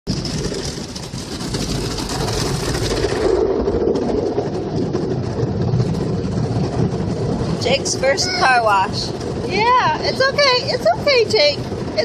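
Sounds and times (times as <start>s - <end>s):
low steady rushing noise: 0.1s - 12.0s
water spraying on car: 0.1s - 12.0s.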